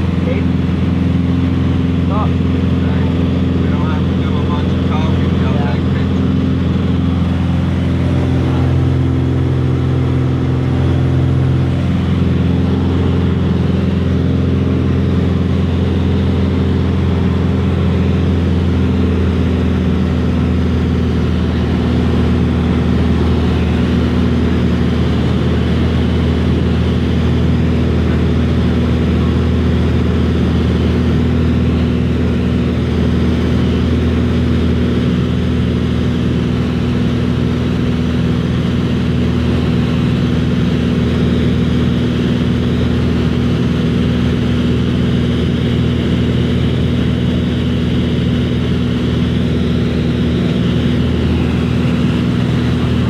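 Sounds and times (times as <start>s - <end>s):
aircraft engine drone in cabin: 0.0s - 53.0s.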